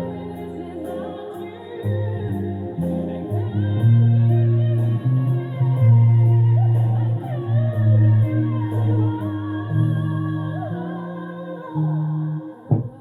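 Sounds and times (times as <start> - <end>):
electric bass guitar low notes: 0.0 - 13.0
guitar: 0.0 - 13.0.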